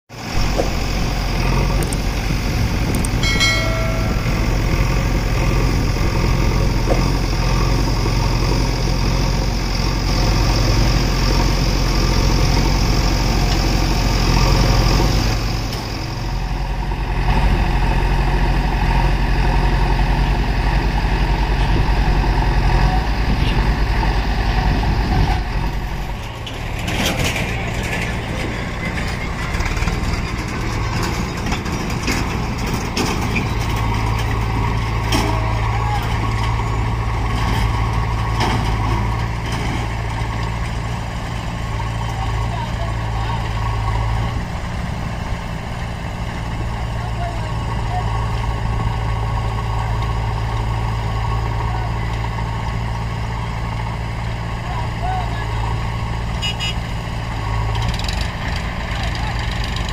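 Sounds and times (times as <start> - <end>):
diesel engine under load: 0.1 - 59.9.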